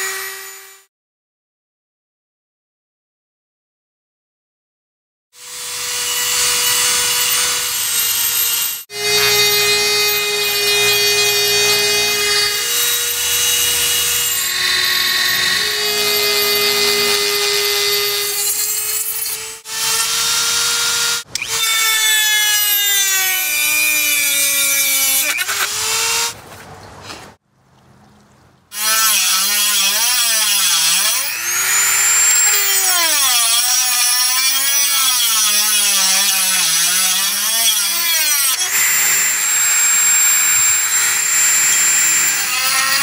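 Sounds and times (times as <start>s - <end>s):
rotary tool grinding wood: 5.4s - 26.4s, 28.7s - 43.0s.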